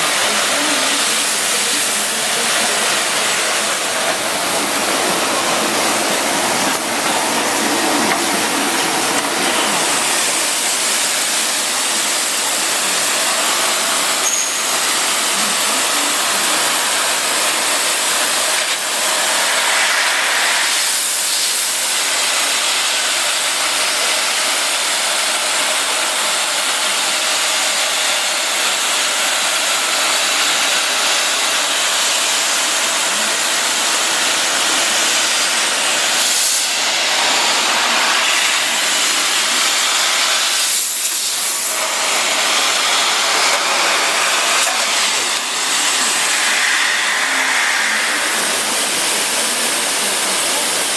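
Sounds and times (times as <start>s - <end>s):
dishwasher water jets hissing: 0.0s - 50.9s.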